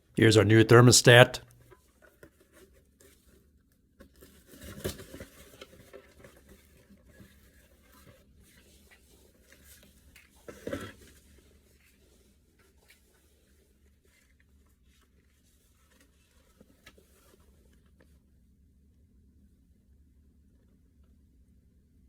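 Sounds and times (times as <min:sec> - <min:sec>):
rustling and handling noises: 0:00.8 - 0:18.6.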